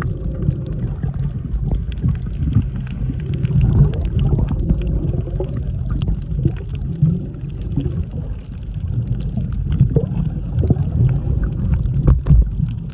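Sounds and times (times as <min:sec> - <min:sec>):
small clicks and crackles: 0:00.0 - 0:12.9
underwater rumble and sloshing: 0:00.0 - 0:12.9.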